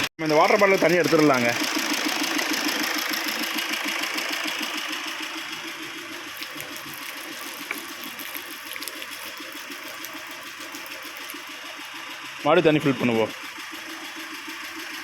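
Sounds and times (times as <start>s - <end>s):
car engine idling: 0.2s - 15.0s.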